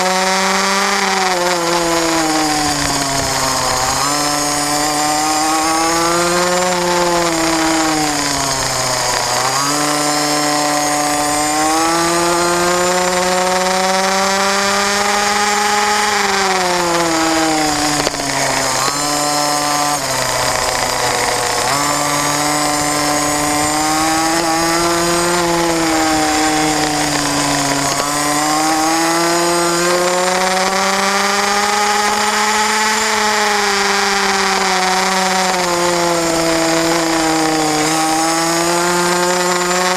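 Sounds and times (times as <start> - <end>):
racing kart engine: 0.0 - 39.9.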